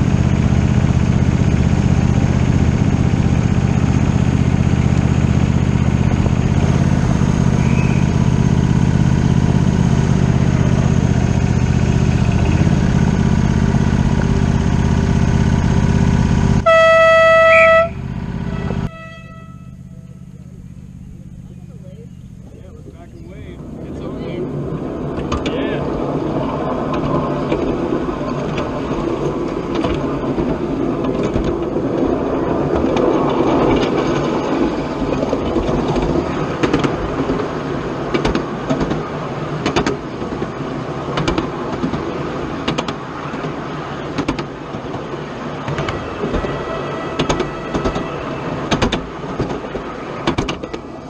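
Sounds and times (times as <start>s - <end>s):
wheels clicking over rail joints: 0.0s - 16.7s, 20.2s - 51.0s
miniature train rumbling: 0.0s - 51.0s.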